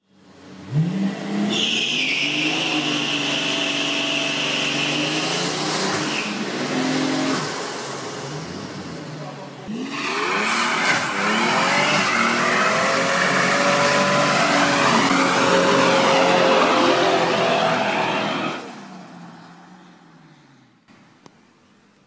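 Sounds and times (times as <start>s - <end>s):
car engine revving high: 0.6s - 19.8s.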